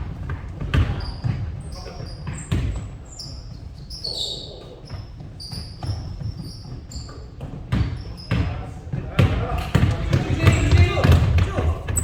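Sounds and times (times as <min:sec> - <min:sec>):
basketball bouncing on gym floor: 0:00.0 - 0:03.0, 0:04.8 - 0:12.0
shoes squeaking on court: 0:00.2 - 0:12.0.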